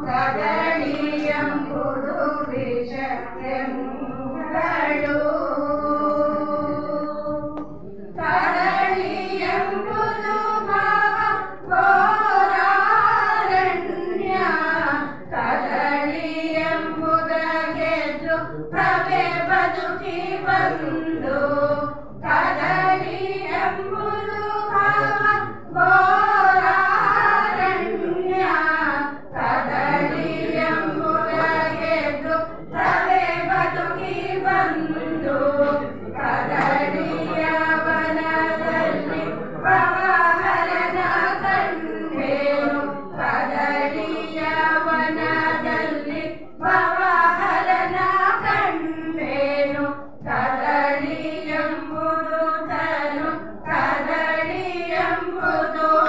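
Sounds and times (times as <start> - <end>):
women singing into a microphone: 0.0 - 56.0.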